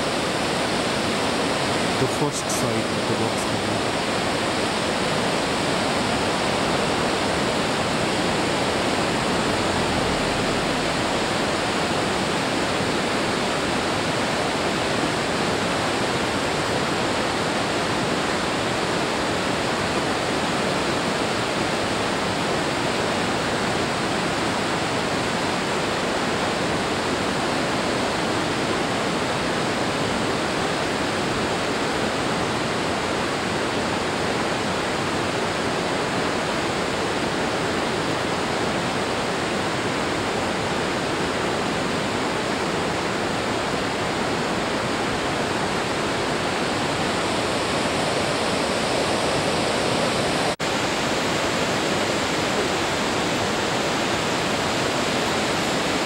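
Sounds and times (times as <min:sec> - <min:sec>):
rushing whitewater: 0:00.0 - 0:56.0.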